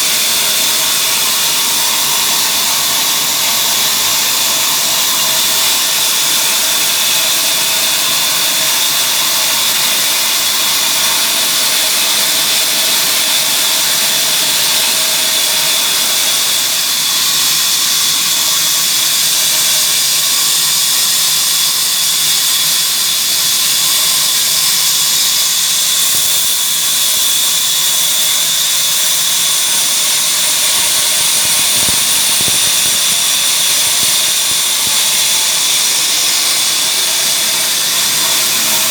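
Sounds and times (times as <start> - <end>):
wood-sawing machine running: 0.0 - 38.9.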